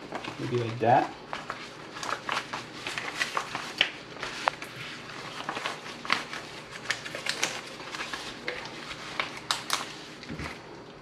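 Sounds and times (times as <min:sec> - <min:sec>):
leaves rustling and crackling: 0:00.0 - 0:10.6.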